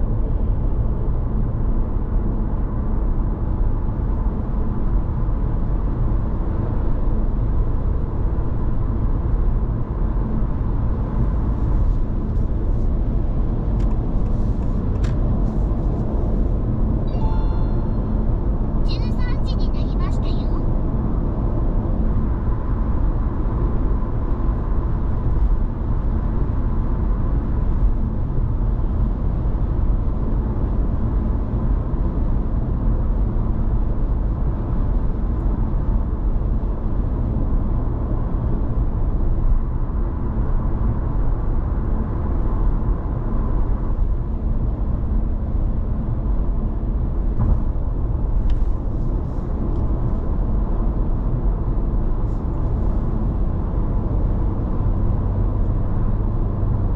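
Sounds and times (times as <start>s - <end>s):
engine hum: 0.0s - 56.9s
road and tyre noise: 0.0s - 56.9s.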